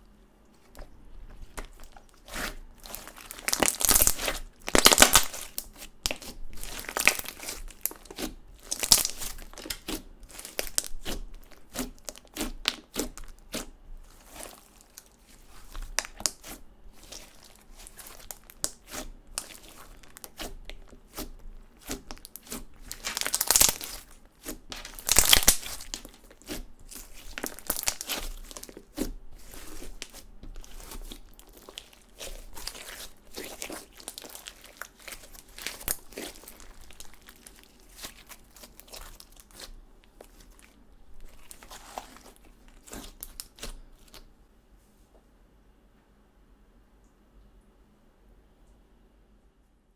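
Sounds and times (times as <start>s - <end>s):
hands squishing slime: 0.5s - 44.3s.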